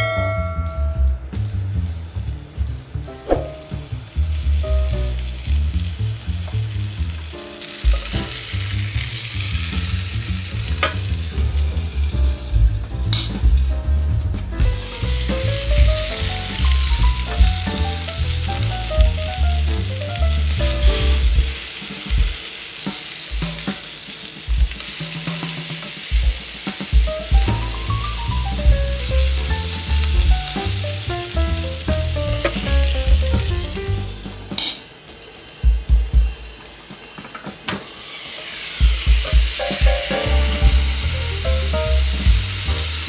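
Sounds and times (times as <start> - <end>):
vegetables sizzling on grill pan: 3.5 - 12.1, 14.8 - 35.6, 36.7 - 43.0.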